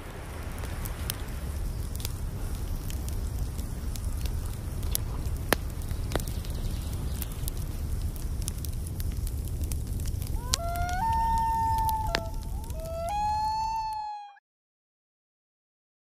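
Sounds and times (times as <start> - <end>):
wood fire crackling: 0.0 - 14.2.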